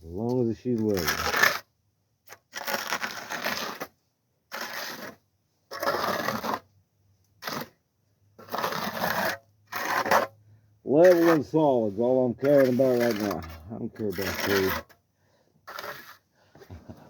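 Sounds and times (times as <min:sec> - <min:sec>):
trowel scraping wet concrete: 0:00.2 - 0:01.7, 0:02.3 - 0:06.7, 0:07.4 - 0:07.8, 0:08.4 - 0:15.0, 0:15.6 - 0:17.0.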